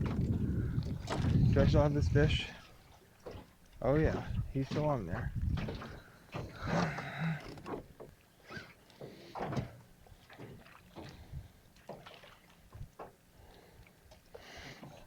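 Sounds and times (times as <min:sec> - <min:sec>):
knocks and clunks in metal boat: 0:00.0 - 0:08.2, 0:09.0 - 0:13.2.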